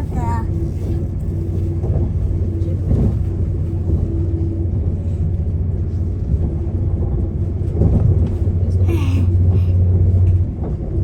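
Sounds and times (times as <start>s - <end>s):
train carriage rumbling: 0.0s - 11.0s.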